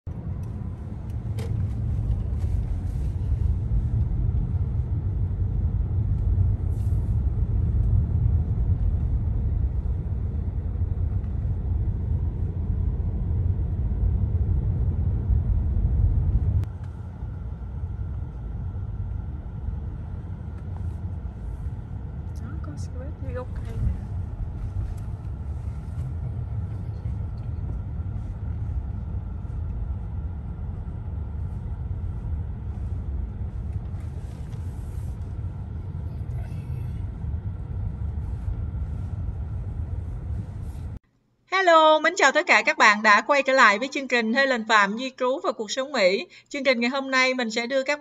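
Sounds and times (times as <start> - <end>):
car cabin road and engine rumble: 0.0 - 41.1.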